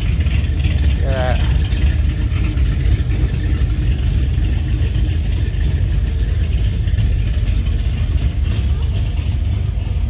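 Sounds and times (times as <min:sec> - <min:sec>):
car engine deep rumble: 0:00.0 - 0:10.0.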